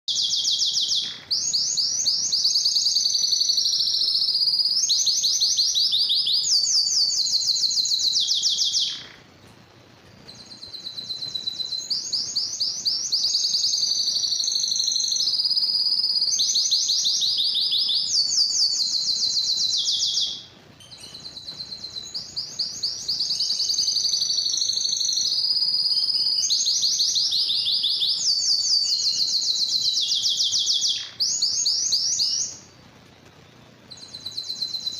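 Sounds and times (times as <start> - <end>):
canary singing rapid trills: 0.1 - 9.4, 10.2 - 32.9, 33.5 - 34.9.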